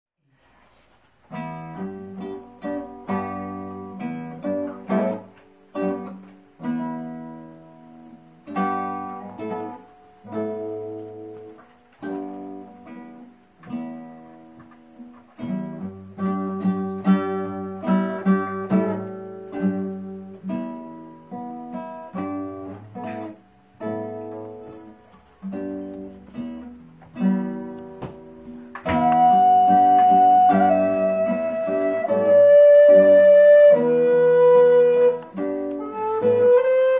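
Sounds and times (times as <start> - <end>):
acoustic guitar music: 0.4 - 36.9.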